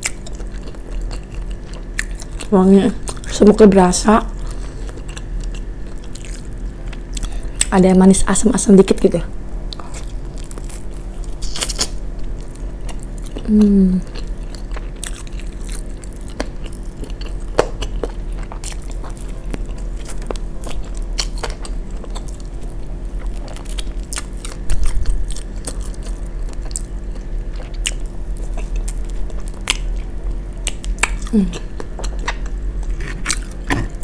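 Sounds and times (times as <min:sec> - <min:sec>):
biting and chewing chicken: 0:00.0 - 0:03.4, 0:04.3 - 0:07.7, 0:09.6 - 0:34.0
steady low hum: 0:00.0 - 0:34.0.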